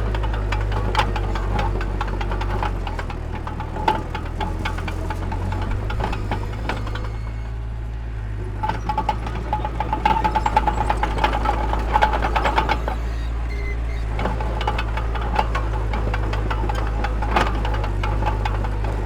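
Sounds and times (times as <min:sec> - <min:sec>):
rapid metallic clatter: 0:00.0 - 0:07.6, 0:08.3 - 0:19.0
heavy machinery droning: 0:00.0 - 0:19.0.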